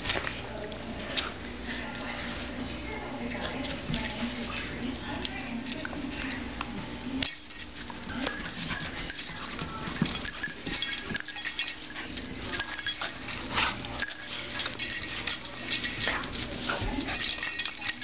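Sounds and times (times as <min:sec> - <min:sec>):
dogs scuffling: 0:00.0 - 0:18.0.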